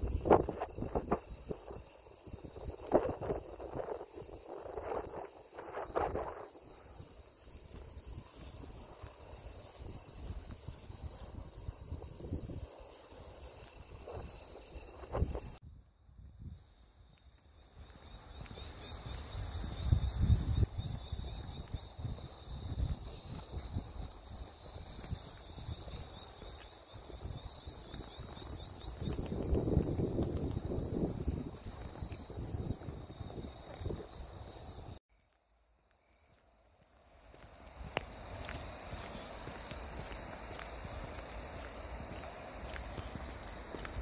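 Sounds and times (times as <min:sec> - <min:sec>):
insects chorus: 0:00.0 - 0:44.0.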